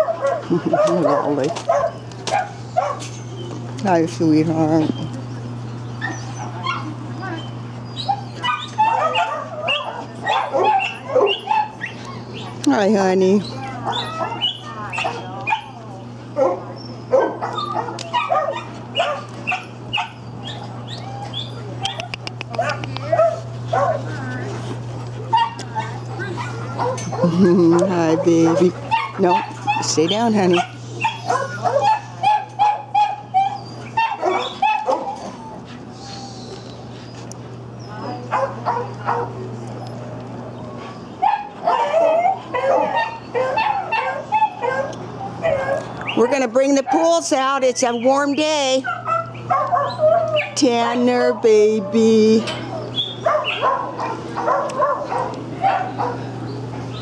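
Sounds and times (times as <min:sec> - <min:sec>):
dogs barking: 0:00.0 - 0:03.6, 0:04.7 - 0:24.4, 0:25.0 - 0:36.0, 0:37.8 - 0:57.0
steady low hum: 0:00.0 - 0:57.0.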